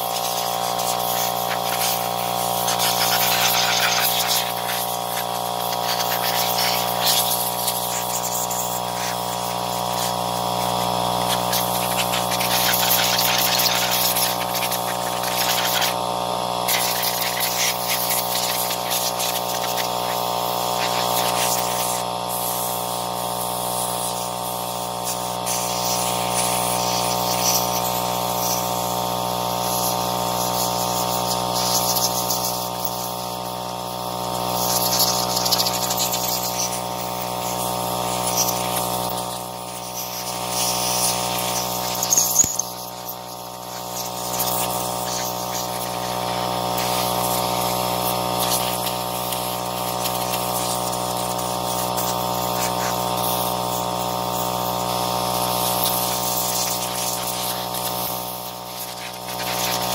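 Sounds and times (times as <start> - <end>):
air compressor running: 0.0 - 59.9
compressed air hissing: 0.0 - 59.9.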